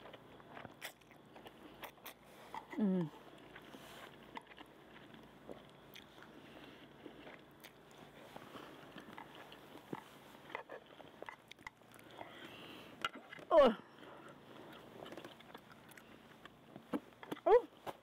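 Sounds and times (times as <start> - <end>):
faint chewing of noodles: 0.0 - 18.0.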